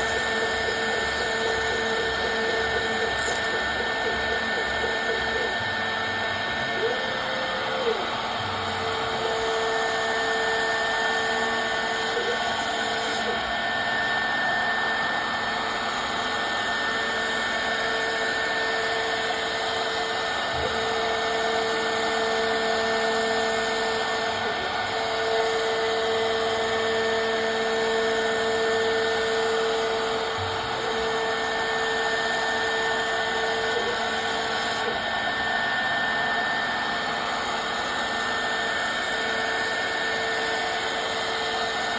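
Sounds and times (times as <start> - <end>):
machine spindle whine: 0.0 - 41.9.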